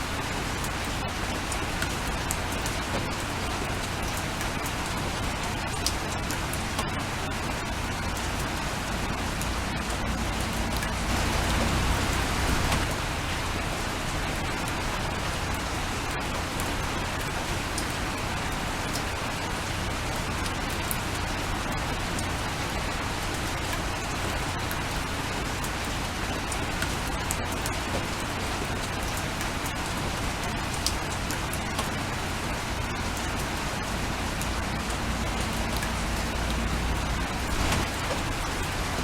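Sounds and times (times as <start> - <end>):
rain hissing: 0.0 - 39.0
raindrops ticking: 0.1 - 39.0.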